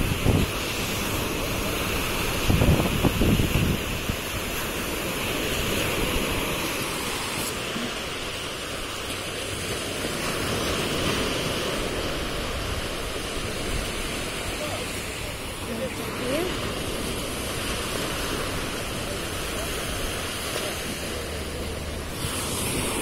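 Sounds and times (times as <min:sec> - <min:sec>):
surf washing up beach: 0:00.0 - 0:23.0.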